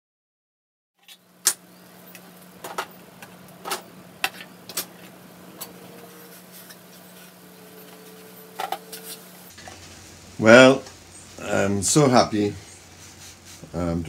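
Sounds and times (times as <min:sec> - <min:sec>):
steady low hum: 0:01.1 - 0:14.0.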